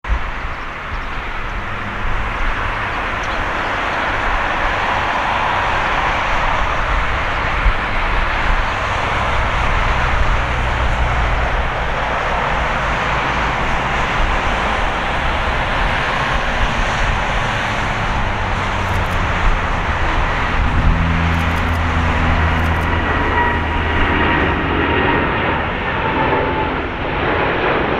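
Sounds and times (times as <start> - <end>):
jet engines at takeoff power: 0.1 - 27.9.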